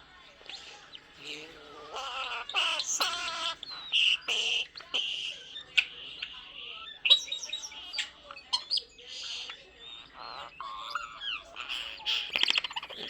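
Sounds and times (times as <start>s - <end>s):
starling whistling and squawking: 0.4s - 13.0s.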